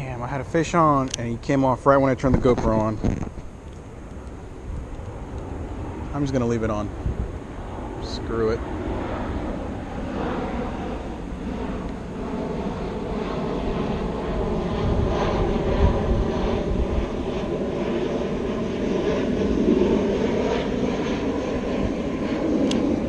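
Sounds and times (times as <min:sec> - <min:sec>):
steady engine drone: 0:00.0 - 0:23.0
wind rumble on microphone: 0:00.0 - 0:23.0.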